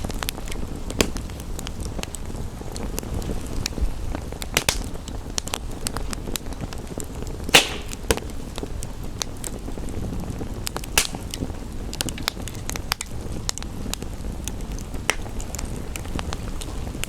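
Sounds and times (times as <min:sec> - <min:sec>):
rain hiss: 0:00.0 - 0:17.0
wood fire crackling: 0:00.0 - 0:17.0.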